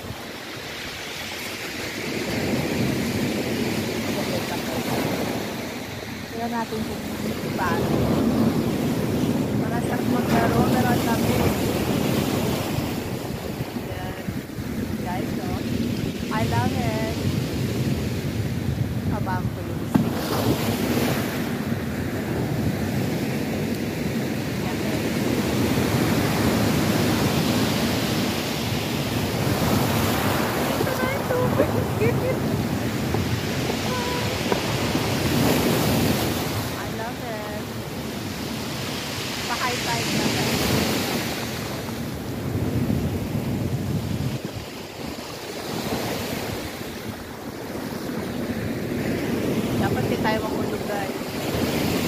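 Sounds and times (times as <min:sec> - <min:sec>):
sea surf breaking: 0:00.0 - 0:52.0
wind on microphone: 0:00.0 - 0:52.0.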